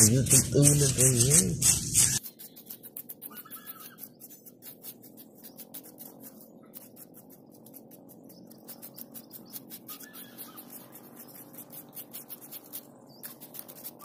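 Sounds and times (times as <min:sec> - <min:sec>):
spoon scraping wet sand: 0:00.0 - 0:14.0.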